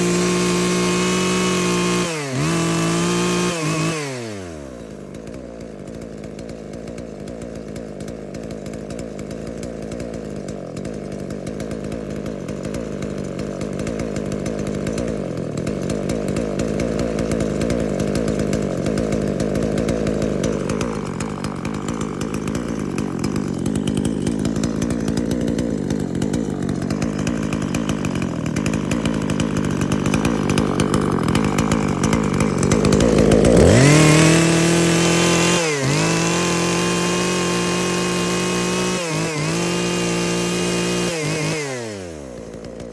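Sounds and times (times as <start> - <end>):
chainsaw idling and revving: 0.0 - 42.9.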